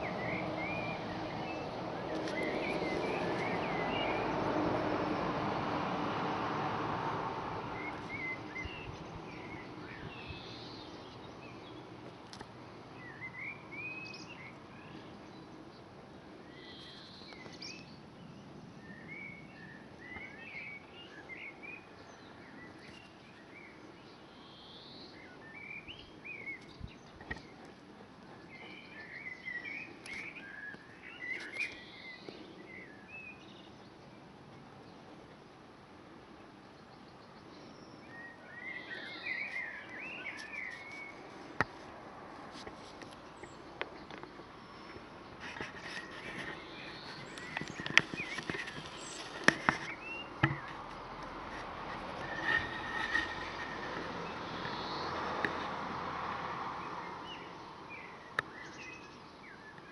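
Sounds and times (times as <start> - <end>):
small birds chirping: 0.0 - 4.7, 7.6 - 55.8, 56.8 - 59.9
faint background noise: 0.0 - 59.9.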